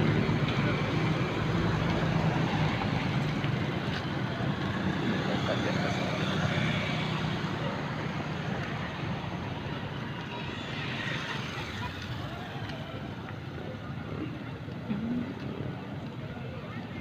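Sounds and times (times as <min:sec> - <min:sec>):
faint voices: 0:00.0 - 0:17.0
road traffic engine rumble: 0:00.0 - 0:17.0.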